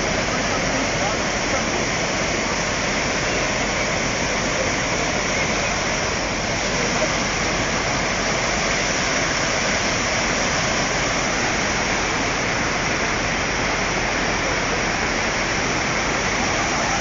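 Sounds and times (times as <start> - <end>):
loud rush of water: 0.0 - 17.0.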